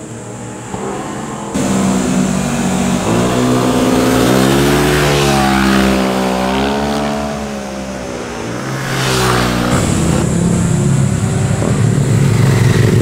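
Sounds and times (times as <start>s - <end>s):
motorcycle engines accelerating: 0.0s - 13.0s.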